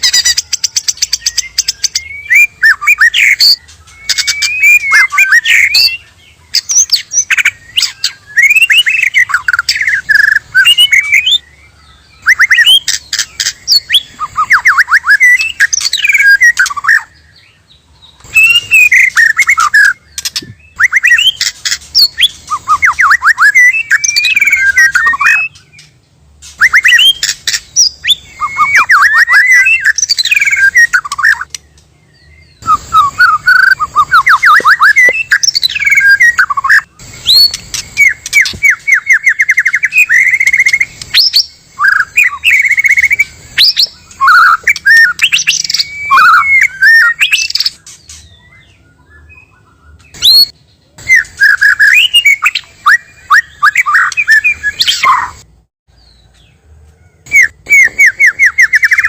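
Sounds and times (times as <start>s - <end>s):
bird singing whistled phrases: 0.0s - 17.4s, 18.1s - 31.6s, 32.2s - 55.5s, 57.3s - 59.0s.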